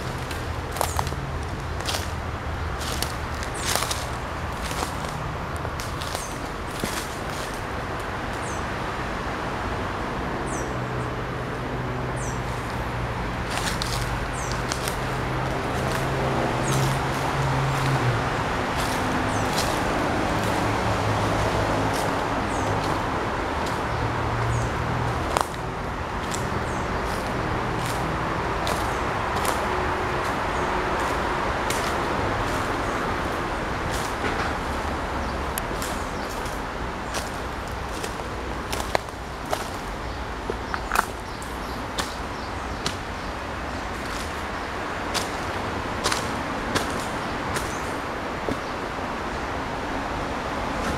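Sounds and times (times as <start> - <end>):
footsteps on dry leaves: 0.0 - 8.6, 12.3 - 48.9
city traffic noise: 0.0 - 50.9.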